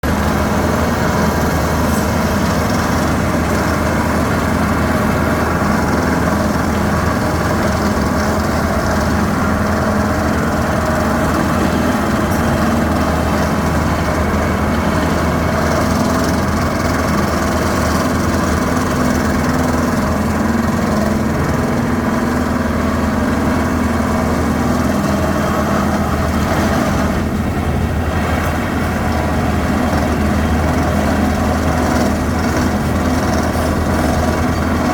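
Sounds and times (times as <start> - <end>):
heavy drilling equipment engine drone: 0.0 - 34.9.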